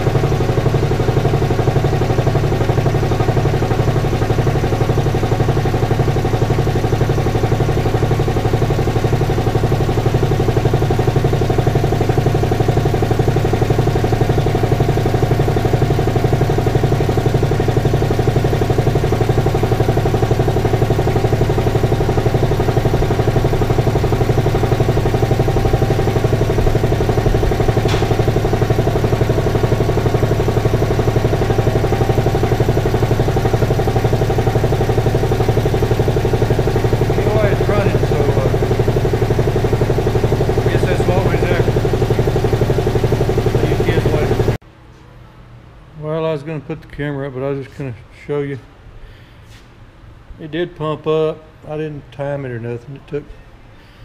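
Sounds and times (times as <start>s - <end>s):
air compressor pumping: 0.0s - 44.6s.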